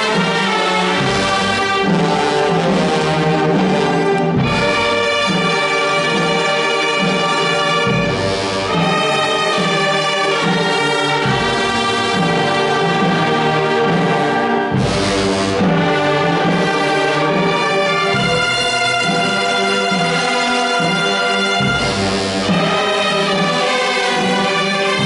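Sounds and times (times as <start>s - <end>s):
wind band playing a march: 0.0s - 25.0s.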